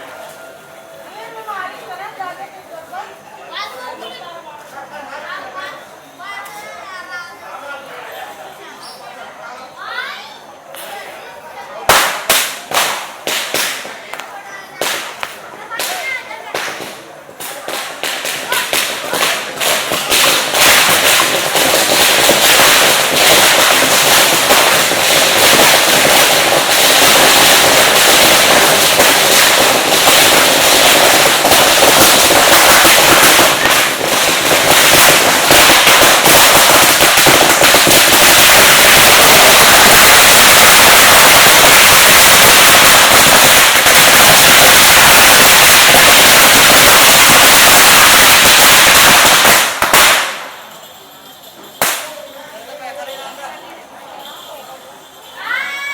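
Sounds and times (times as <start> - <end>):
firecrackers crackling: 0.0 - 6.6, 10.3 - 55.9.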